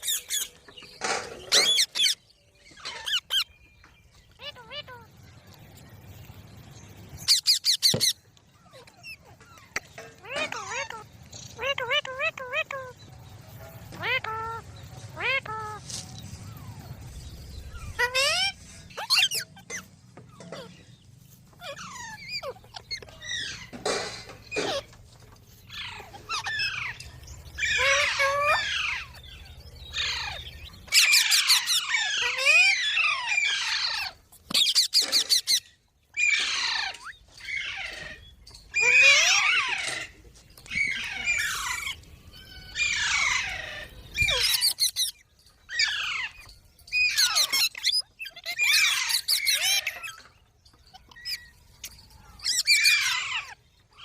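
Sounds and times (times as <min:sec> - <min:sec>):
parrot squawking: 0:07.2 - 0:13.0, 0:13.9 - 0:15.9, 0:17.7 - 0:25.0, 0:25.7 - 0:54.0.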